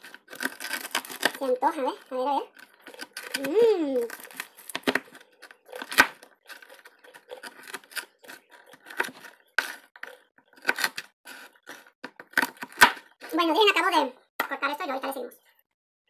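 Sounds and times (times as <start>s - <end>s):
knife chopping crunchy food: 0.0s - 13.6s.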